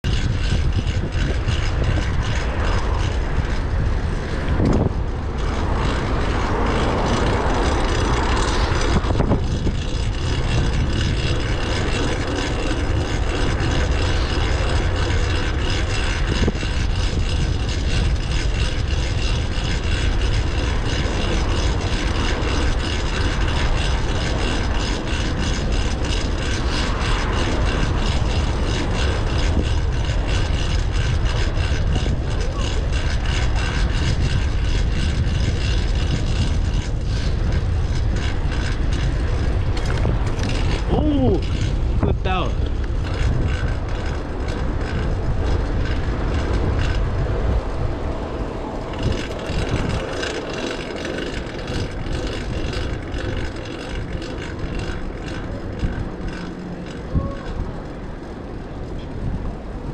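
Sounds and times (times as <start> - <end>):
bike drivetrain whine: 0.0 - 59.9
rushing air: 0.0 - 59.9
wind rumbling on microphone: 0.0 - 59.9.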